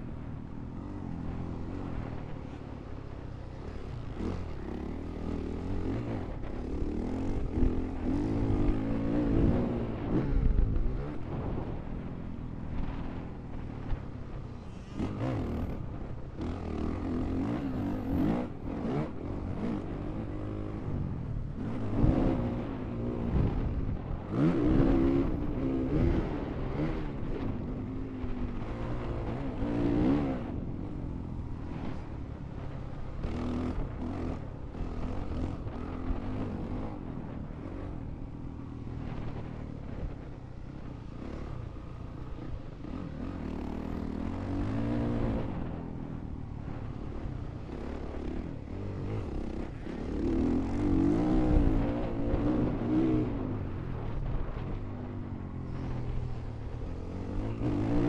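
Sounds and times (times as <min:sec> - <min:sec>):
motorcycle engine revving: 0:00.2 - 0:13.9, 0:14.5 - 0:58.0.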